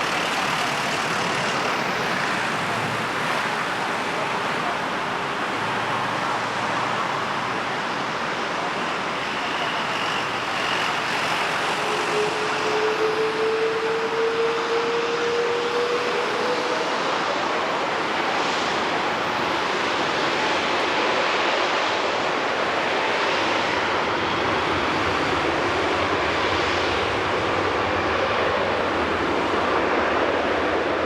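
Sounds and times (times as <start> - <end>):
engine whine: 0.0 - 31.0
jet airliner roar: 0.0 - 31.0.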